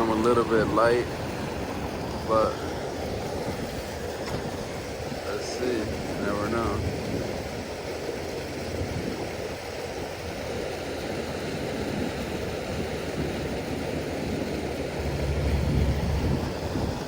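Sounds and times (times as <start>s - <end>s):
fast-flowing floodwater rushing: 0.0s - 17.0s
wind buffeting microphone: 0.0s - 17.0s.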